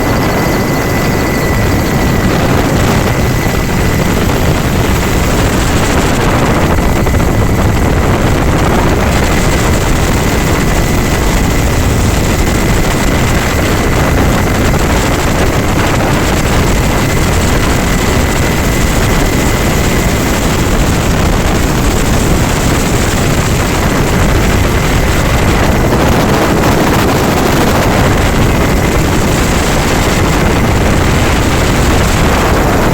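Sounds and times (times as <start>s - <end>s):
helicopter engine and rotor: 0.0s - 32.9s
high whine: 0.0s - 32.9s.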